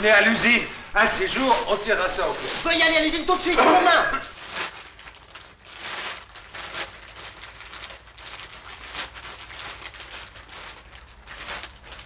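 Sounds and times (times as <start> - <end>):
plastic sacks rustling: 0.0 - 12.0.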